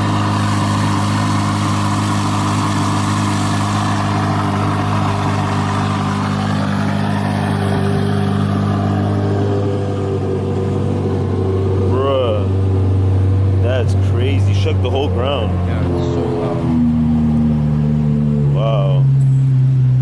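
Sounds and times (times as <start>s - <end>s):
sports car idling: 0.0s - 20.0s.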